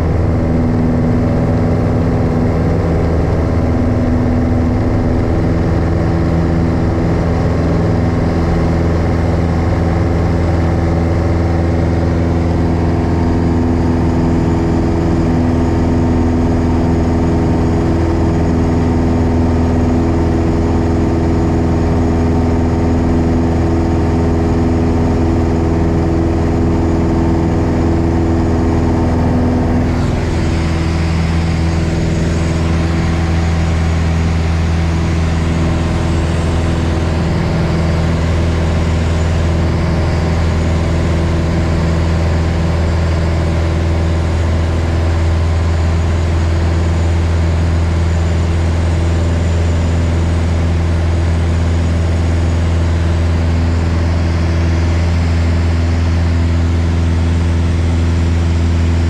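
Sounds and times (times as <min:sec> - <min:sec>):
propeller aircraft engine running: 0:00.0 - 0:59.0.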